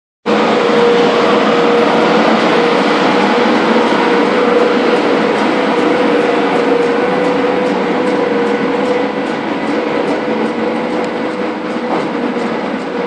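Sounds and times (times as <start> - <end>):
broad rushing noise: 0.3 - 13.0
electric locomotive humming: 0.3 - 13.0.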